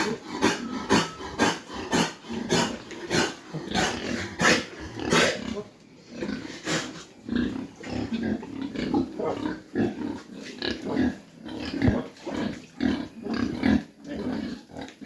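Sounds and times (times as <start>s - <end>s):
pigs grunting: 0.0s - 15.0s.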